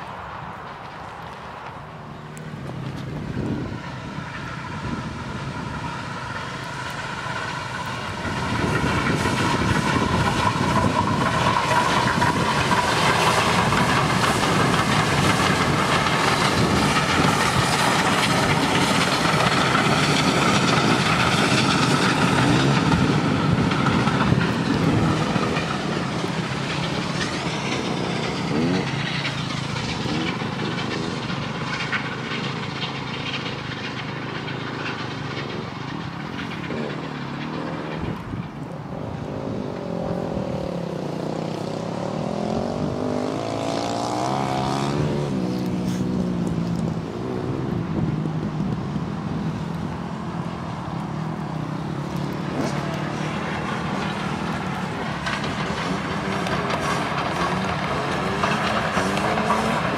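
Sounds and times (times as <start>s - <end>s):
coaches running over rails: 0.0s - 59.9s
steam locomotive exhaust: 0.0s - 59.9s.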